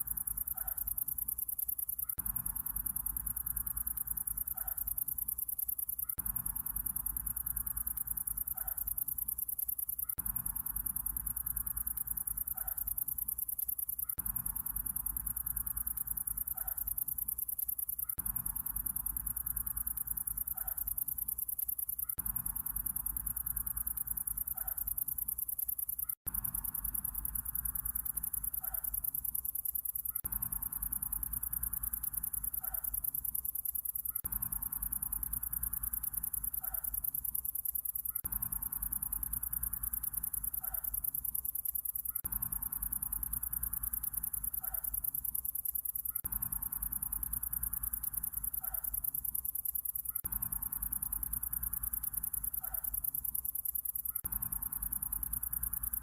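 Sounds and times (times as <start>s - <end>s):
insect chorus: 0.0s - 56.0s.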